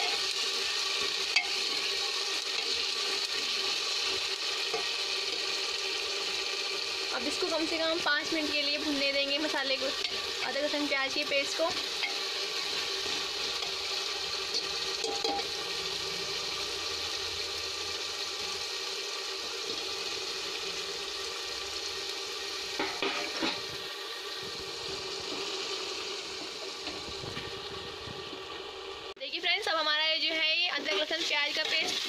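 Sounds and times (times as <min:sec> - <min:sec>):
onion sizzling in hot oil: 0:00.0 - 0:32.0.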